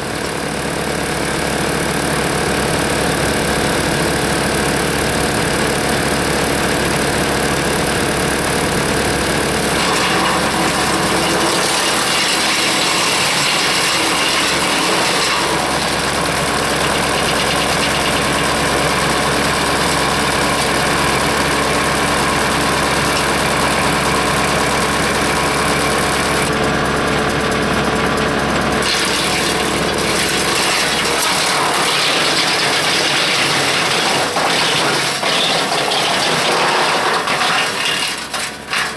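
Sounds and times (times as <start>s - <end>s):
tractor engine: 0.0s - 38.9s
wood chipper rotor din: 0.0s - 38.9s.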